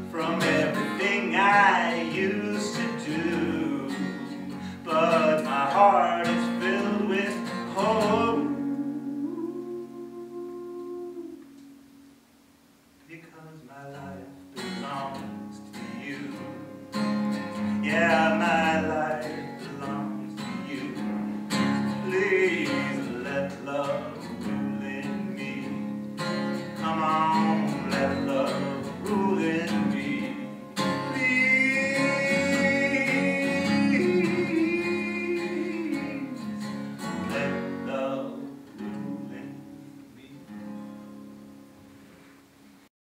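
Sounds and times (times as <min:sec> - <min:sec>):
man singing: 0:00.0 - 0:11.4, 0:13.1 - 0:16.8, 0:17.6 - 0:26.0, 0:26.7 - 0:40.6
acoustic guitar strumming: 0:00.0 - 0:12.6, 0:13.8 - 0:42.8.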